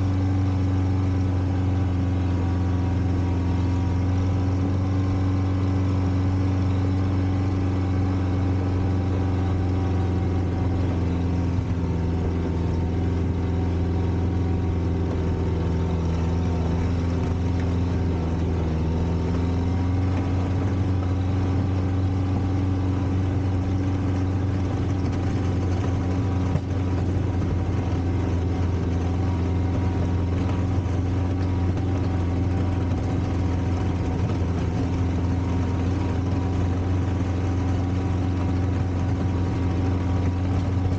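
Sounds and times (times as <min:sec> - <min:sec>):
tractor engine running steadily: 0:00.0 - 0:40.9.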